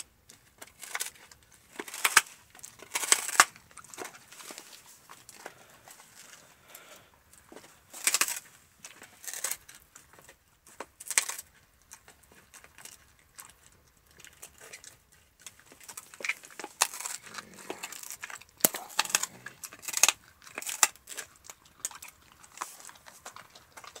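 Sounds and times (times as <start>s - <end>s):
dog chewing a bone: 0.0s - 24.0s.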